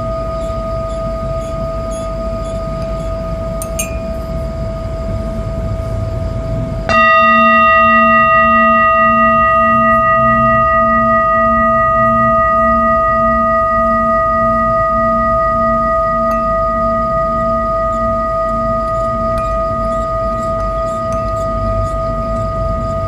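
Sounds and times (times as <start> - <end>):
singing bowl ringing: 0.0 - 23.0.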